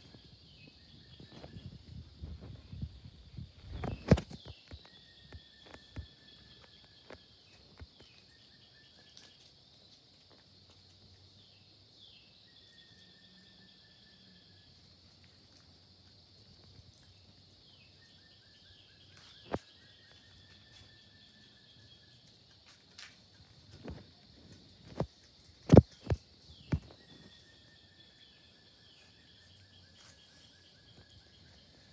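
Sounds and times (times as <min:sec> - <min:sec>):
insects droning and trilling: 0:00.0 - 0:31.9.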